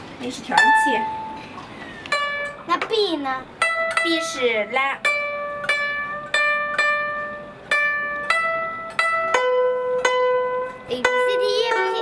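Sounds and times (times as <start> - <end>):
guzheng plucked notes: 0.4 - 12.0.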